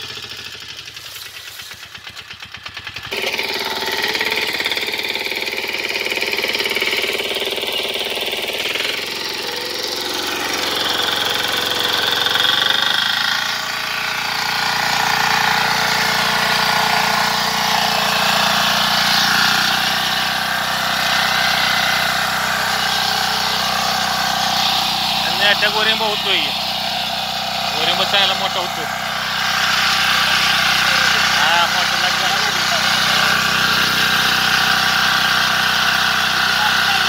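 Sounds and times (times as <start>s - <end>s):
tiller engine running under load: 0.0s - 37.0s.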